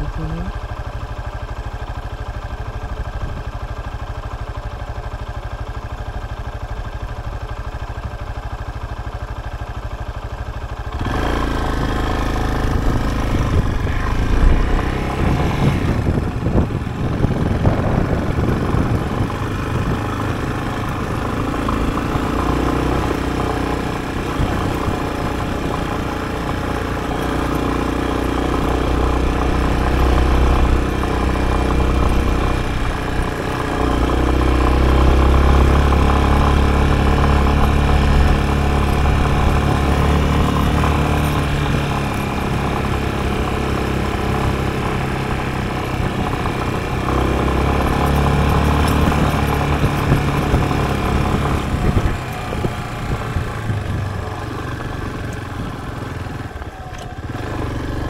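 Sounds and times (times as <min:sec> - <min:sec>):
motorcycle engine: 0:00.0 - 0:58.0
road and wind noise: 0:00.0 - 0:58.0.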